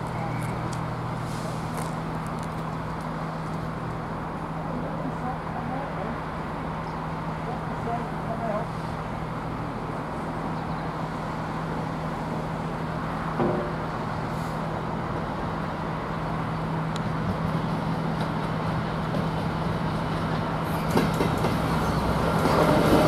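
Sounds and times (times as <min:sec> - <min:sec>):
diesel train engine humming: 0:00.0 - 0:23.0.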